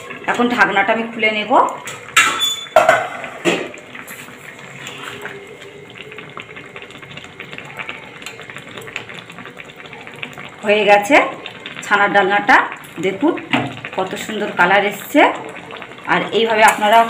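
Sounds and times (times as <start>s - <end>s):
thick curry bubbling: 0.0s - 17.0s.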